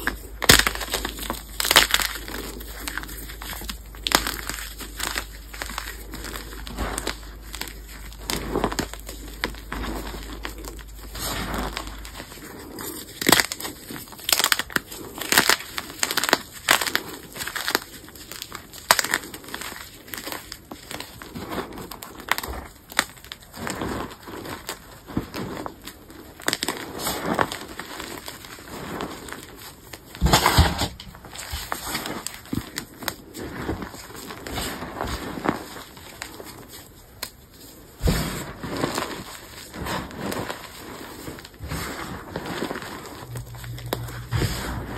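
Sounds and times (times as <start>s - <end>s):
chalk blocks crunching: 0.0s - 44.9s.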